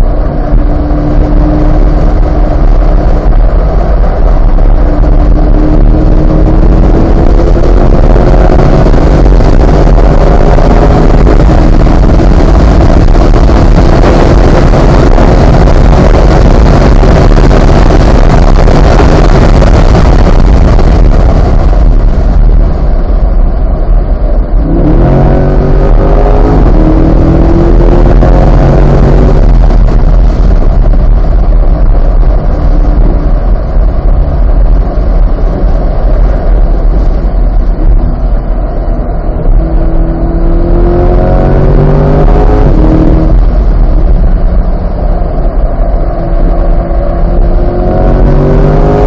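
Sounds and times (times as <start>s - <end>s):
sports car engine accelerating: 0.0s - 49.0s.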